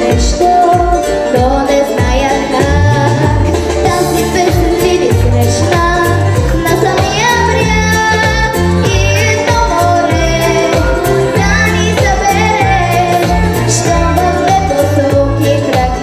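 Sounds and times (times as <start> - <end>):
girl singing into a microphone: 0.0 - 16.0
instrumental music with beat and bass: 0.0 - 16.0.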